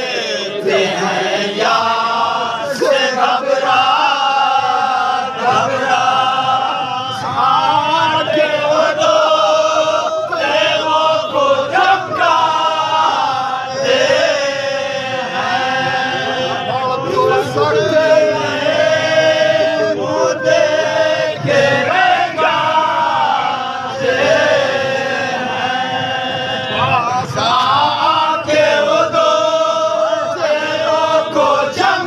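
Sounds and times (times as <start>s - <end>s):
man leading verses: 0.0s - 32.0s
men chanting in chorus: 0.0s - 32.0s.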